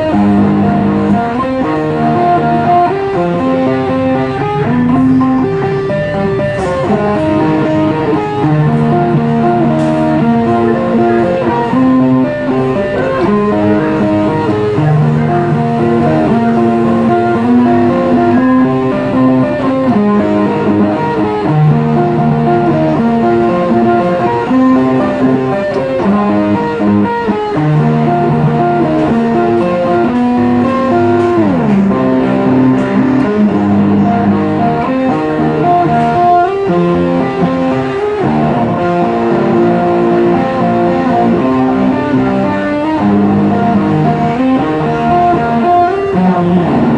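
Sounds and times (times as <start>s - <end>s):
electric guitar background music: 0.0s - 46.9s.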